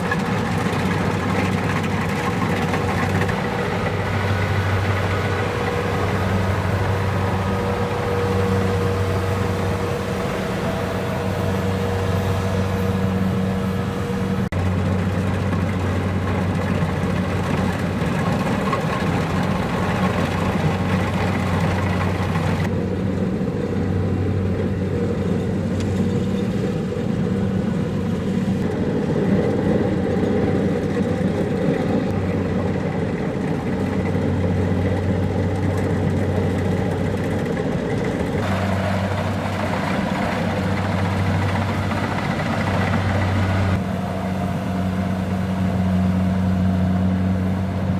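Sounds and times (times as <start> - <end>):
diesel engine humming: 0.0 - 47.9.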